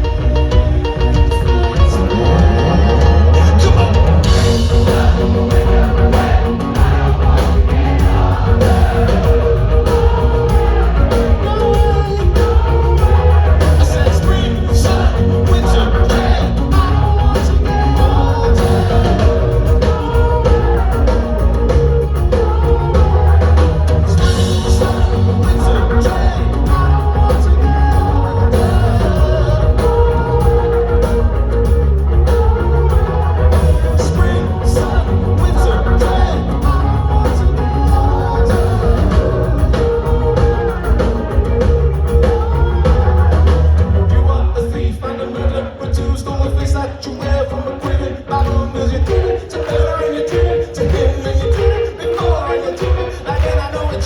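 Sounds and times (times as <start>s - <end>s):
heavy bass: 0.0s - 44.9s
person singing: 0.0s - 54.0s
rock band playing live: 0.0s - 54.0s
steady drums: 0.0s - 54.0s.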